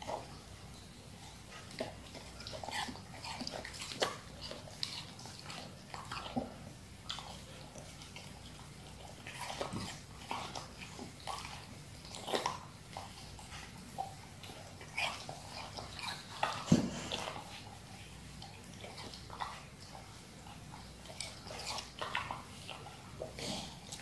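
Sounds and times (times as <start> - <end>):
dog licking and chewing: 0.0 - 24.0.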